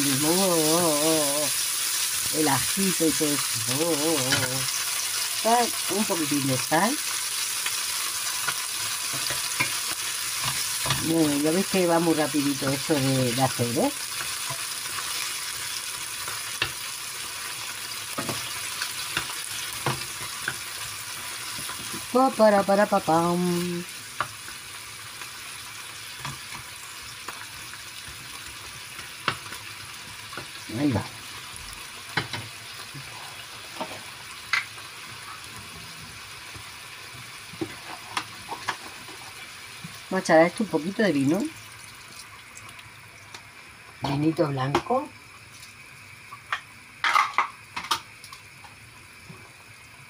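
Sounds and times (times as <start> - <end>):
shrimp sizzling in hot oil: 0.0 - 50.0.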